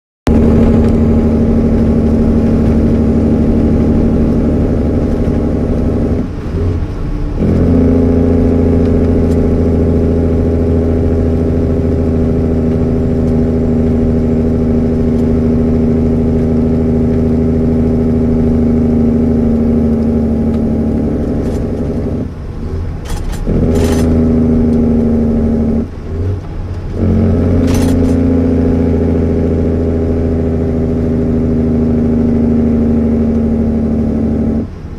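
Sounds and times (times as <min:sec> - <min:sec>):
diesel truck engine droning: 0:00.3 - 0:34.9.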